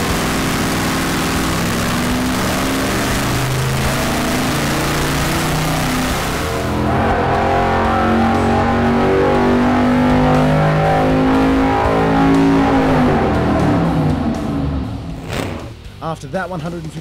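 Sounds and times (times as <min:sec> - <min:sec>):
engine running hard on a dyno: 0:00.0 - 0:15.2
rock guitar music: 0:00.0 - 0:16.2.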